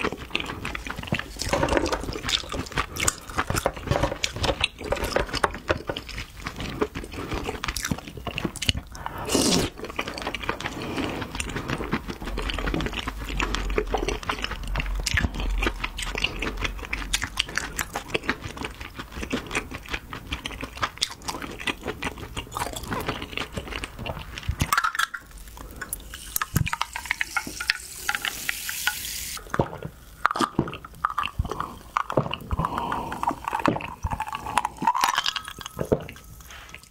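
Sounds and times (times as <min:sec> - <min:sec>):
chewing and mouth smacks: 0:00.0 - 0:27.8, 0:29.4 - 0:36.9.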